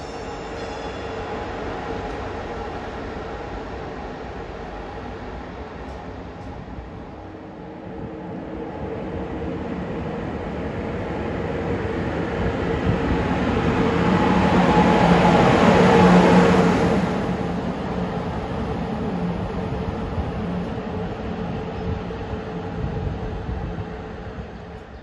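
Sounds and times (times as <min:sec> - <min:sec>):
electric locomotive hum: 0:00.0 - 0:25.0.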